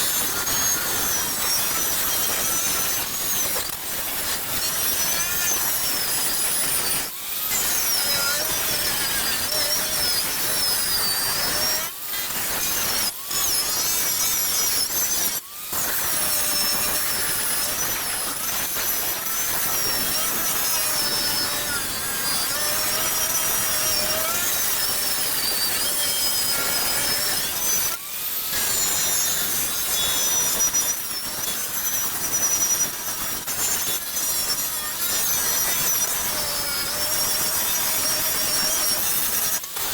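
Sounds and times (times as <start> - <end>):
angle grinder with wire wheel: 0.0 - 39.9.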